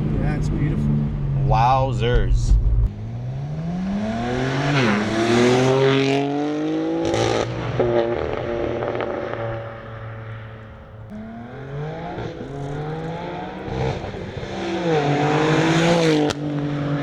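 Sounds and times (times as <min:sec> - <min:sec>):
car engine accelerating past: 0:02.8 - 0:17.0.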